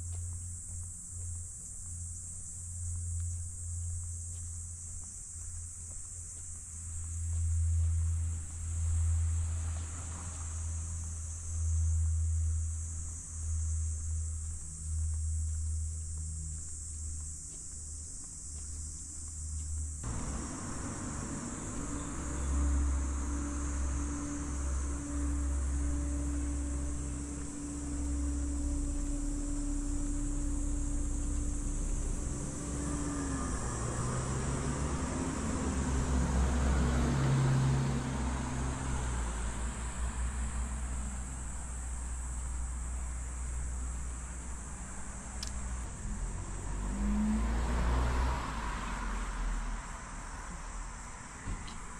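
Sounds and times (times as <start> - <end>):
fuller hum: 0.0 - 47.2
low rumble: 0.0 - 51.4
cicadas buzzing: 0.0 - 51.9
car passing: 6.1 - 17.4, 18.4 - 51.9.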